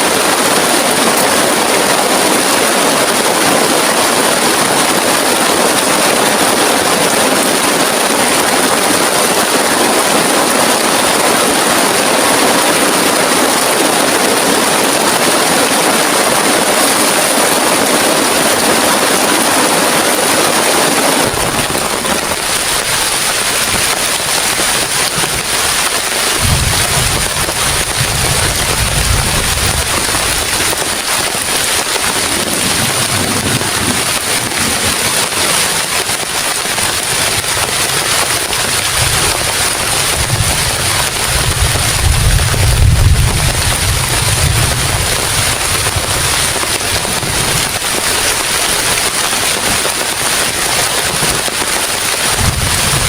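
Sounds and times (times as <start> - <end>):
heavy rain pouring: 0.0 - 53.0
wind gusts buffeting microphone: 3.0 - 53.0.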